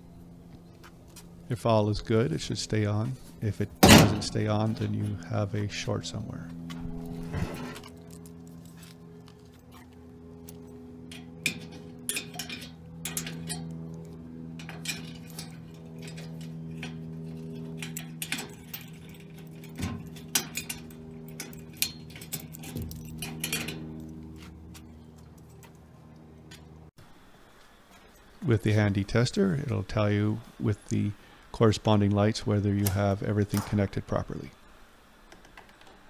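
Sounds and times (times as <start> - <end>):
steady low hum: 0.0 - 35.2.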